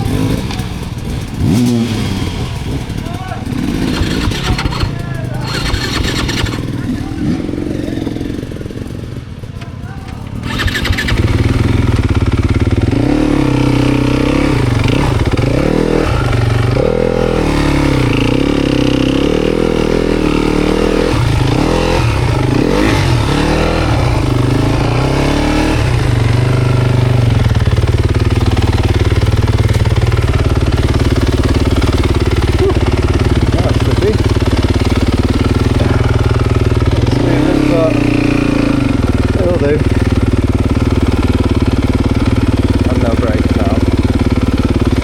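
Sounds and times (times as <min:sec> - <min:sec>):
dirt bike engine revving: 0:00.0 - 0:09.4, 0:10.2 - 0:45.0.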